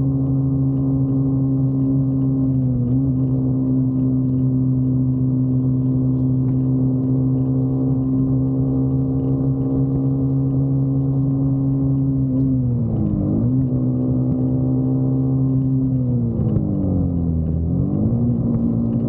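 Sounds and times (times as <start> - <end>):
motorcycle engine droning: 0.0 - 19.0.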